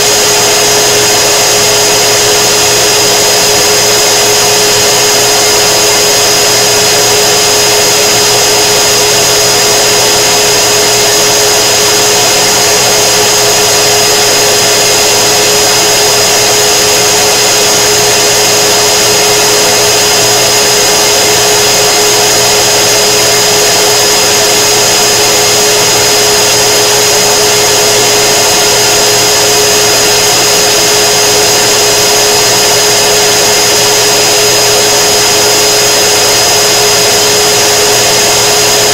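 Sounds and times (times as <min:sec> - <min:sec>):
exhaust blower rushing hum: 0:00.0 - 0:38.9
steady high whine: 0:00.0 - 0:38.9.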